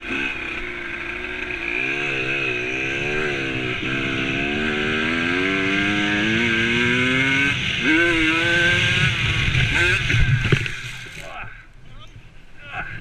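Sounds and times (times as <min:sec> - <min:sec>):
dirt bike engine revving: 0:00.0 - 0:11.3.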